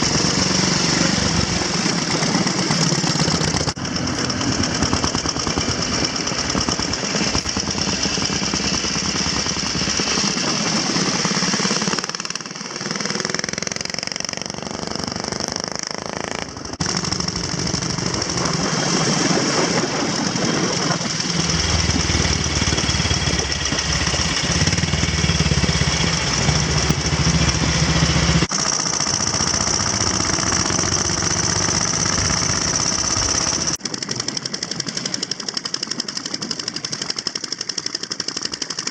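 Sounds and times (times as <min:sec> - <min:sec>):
motorcycle engines knocking: 0:00.0 - 0:38.9.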